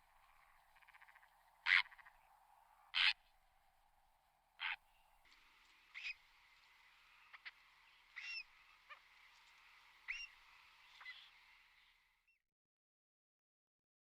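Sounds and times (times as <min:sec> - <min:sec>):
faint bird calls: 0:00.0 - 0:12.1
soft outdoor hiss: 0:00.0 - 0:12.4.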